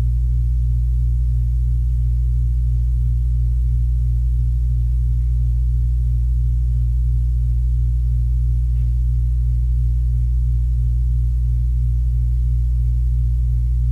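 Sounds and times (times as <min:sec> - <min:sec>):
loud low hum: 0:00.0 - 0:13.9.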